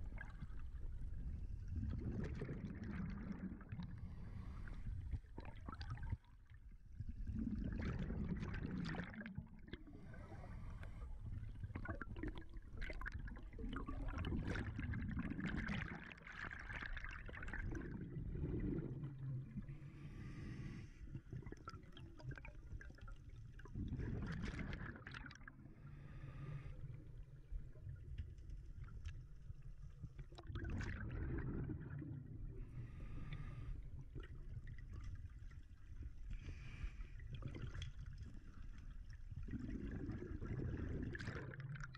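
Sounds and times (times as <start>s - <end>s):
low rumble of water: 0.0s - 41.9s
underwater bubbles gurgling: 0.0s - 41.9s.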